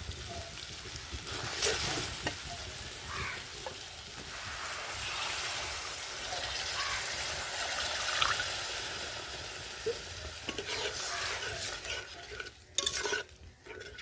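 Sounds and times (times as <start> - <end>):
curry sizzling in a pan: 0.0 - 14.0.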